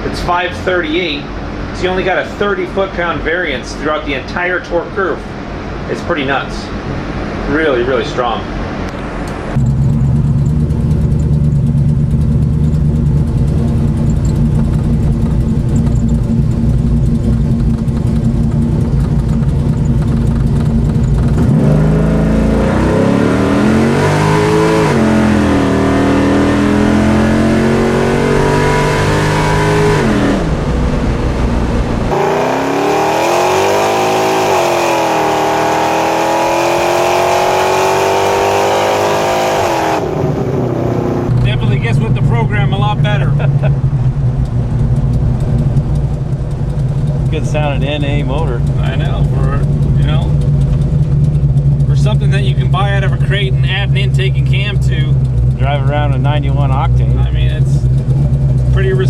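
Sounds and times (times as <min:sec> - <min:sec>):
engine running and revving: 0:08.8 - 0:59.0.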